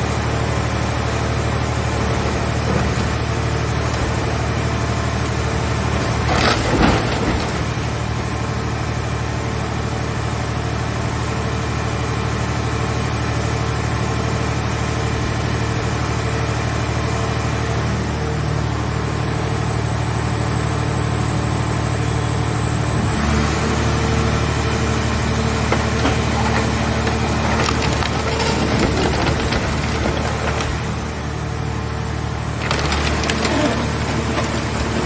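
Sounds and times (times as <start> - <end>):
hydraulic baler droning: 0.0 - 35.0.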